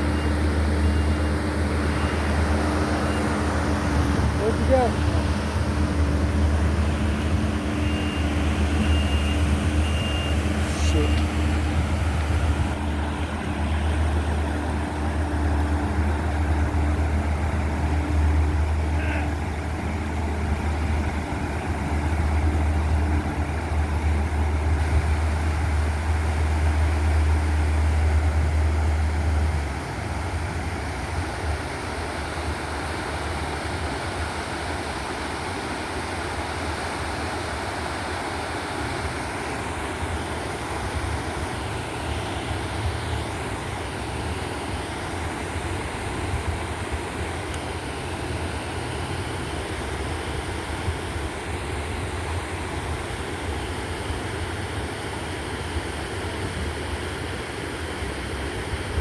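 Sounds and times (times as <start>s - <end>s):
motor vehicle rumble: 0.0s - 59.0s.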